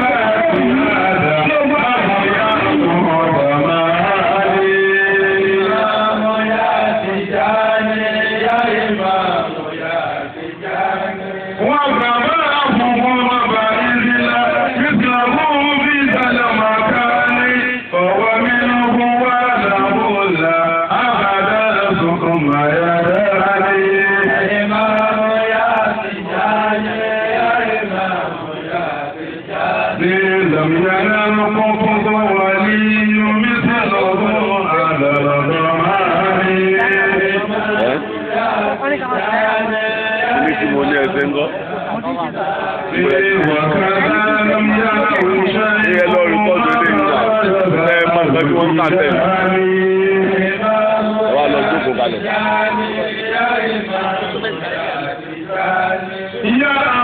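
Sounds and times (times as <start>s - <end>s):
men chanting: 0.0s - 57.0s.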